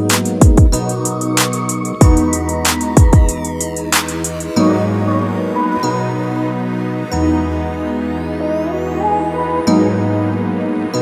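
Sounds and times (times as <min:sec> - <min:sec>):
soft chord music with melody: 0:00.0 - 0:11.0.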